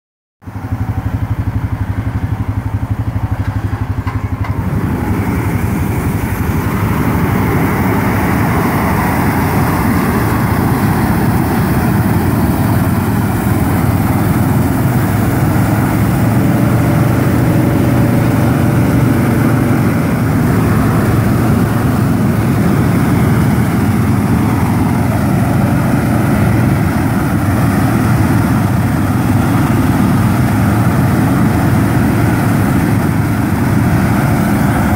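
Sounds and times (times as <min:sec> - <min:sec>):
tractor engine running: 0:00.4 - 0:34.9
propane burners rushing: 0:00.5 - 0:34.9.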